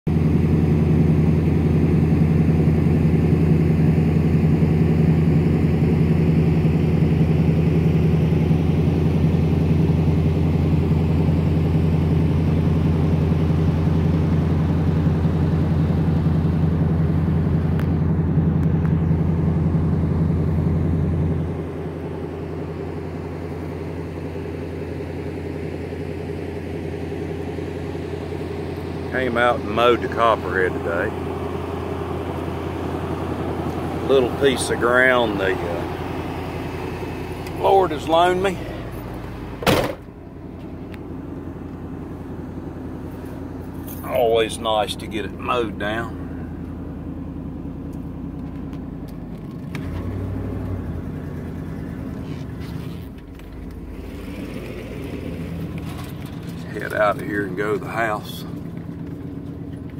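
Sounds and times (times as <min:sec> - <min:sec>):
vehicle engine running steadily: 0:00.0 - 0:59.9.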